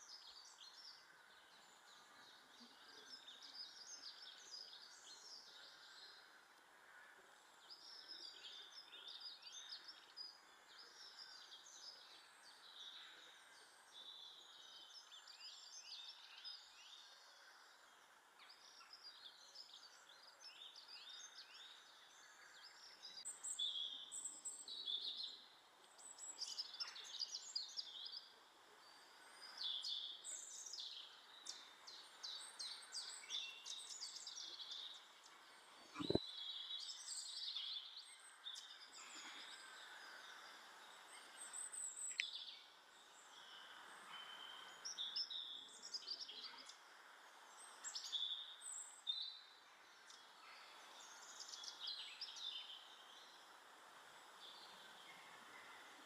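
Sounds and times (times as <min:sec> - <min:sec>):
faint outdoor hum: 0:00.0 - 0:56.0
garden birds chirping: 0:00.0 - 0:56.0.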